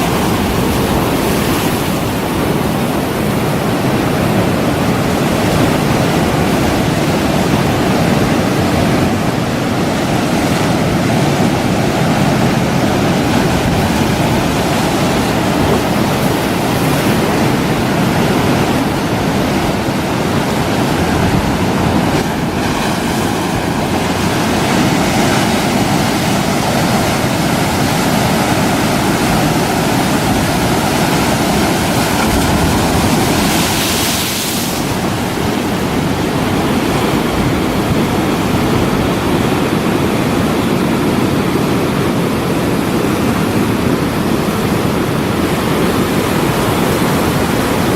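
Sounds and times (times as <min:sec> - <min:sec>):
rough waves: 0:00.0 - 0:47.9
strong wind rushing: 0:00.0 - 0:47.9.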